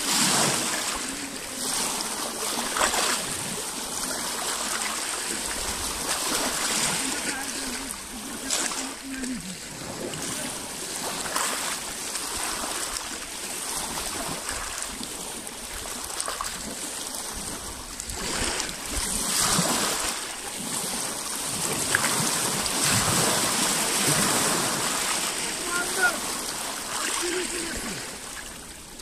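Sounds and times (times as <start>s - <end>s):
waves lapping on rocky shore: 0.0s - 29.0s.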